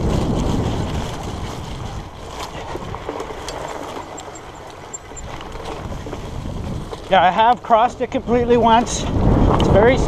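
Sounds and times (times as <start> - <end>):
bike tyres rumbling on grass: 0.0 - 10.0
wind buffeting microphone: 0.0 - 10.0.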